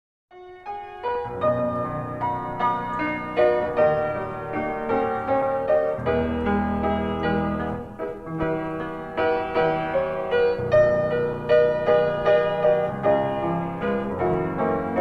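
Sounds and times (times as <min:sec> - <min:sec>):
slow piano piece: 0:00.3 - 0:15.0.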